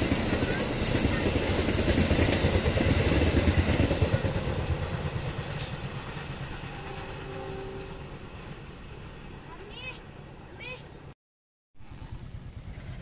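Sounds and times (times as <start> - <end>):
train coaches rumbling over rails: 0.0 - 11.1.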